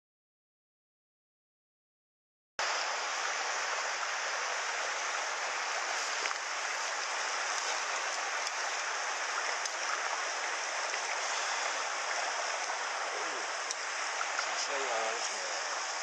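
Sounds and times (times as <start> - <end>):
water rushing over rocks: 2.6 - 16.0.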